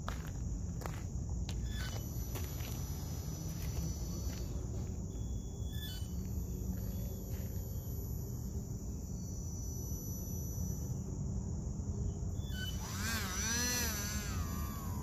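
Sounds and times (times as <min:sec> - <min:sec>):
insect chirring: 0:00.2 - 0:15.0.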